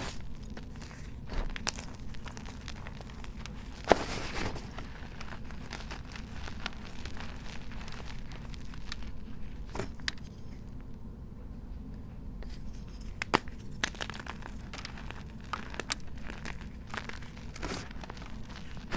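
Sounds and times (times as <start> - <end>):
chalk cracking: 0.0 - 10.6, 12.4 - 18.9
chalk crunching: 0.0 - 10.6, 12.4 - 18.9.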